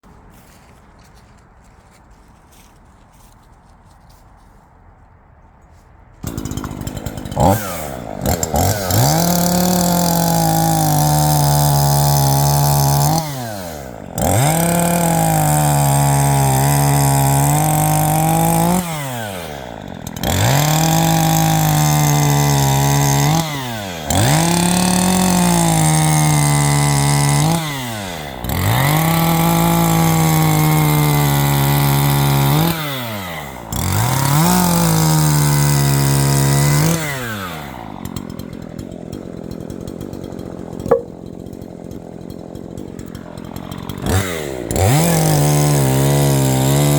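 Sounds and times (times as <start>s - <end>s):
chainsaw cutting a log: 6.2s - 46.9s.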